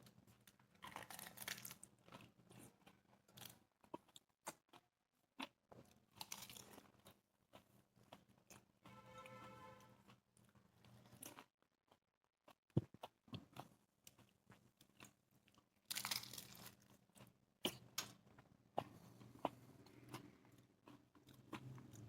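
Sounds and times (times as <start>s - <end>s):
person chewing crisp food: 0.0s - 9.4s, 10.0s - 22.0s.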